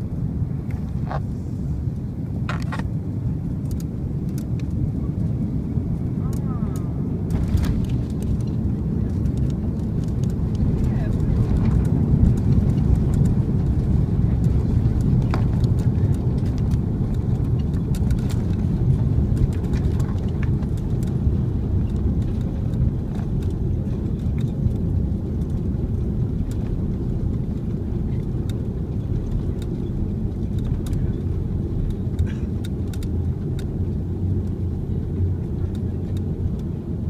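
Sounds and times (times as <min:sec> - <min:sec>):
aircraft engines and wheels rumbling: 0:00.0 - 0:37.0.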